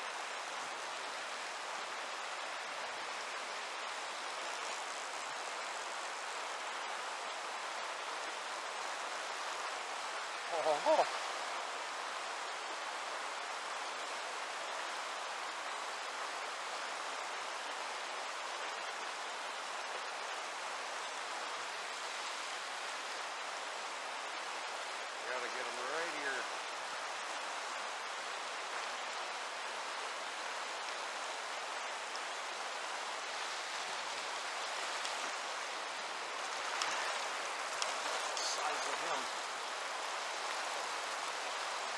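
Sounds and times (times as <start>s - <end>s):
river rapids rushing: 0.0s - 41.9s.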